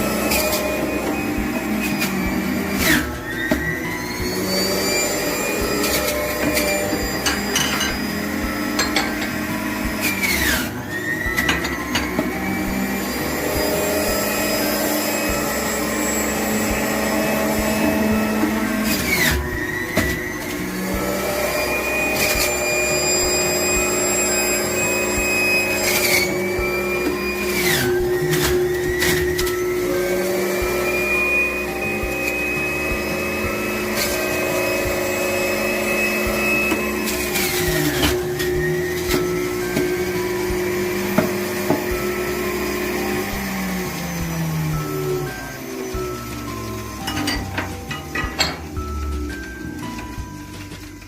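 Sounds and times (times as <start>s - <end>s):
kitchen appliance motor whining: 0.0s - 51.0s.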